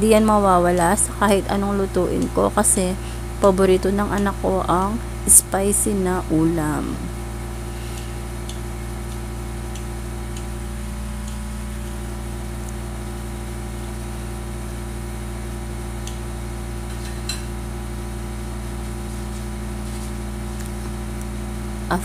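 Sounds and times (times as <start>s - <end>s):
appliance hum: 0.0s - 22.0s.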